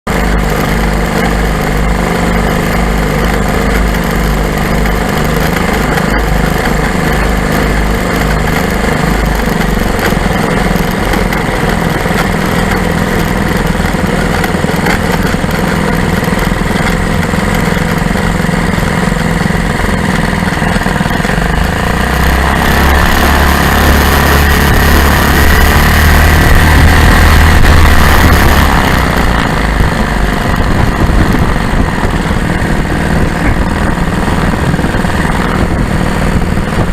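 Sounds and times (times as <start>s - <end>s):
aircraft engines running: 0.0s - 36.9s.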